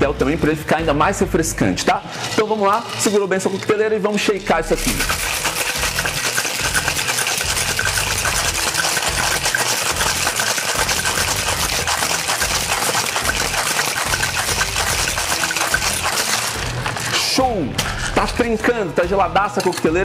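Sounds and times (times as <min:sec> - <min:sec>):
ice rattling in cocktail shaker: 0:01.7 - 0:20.0.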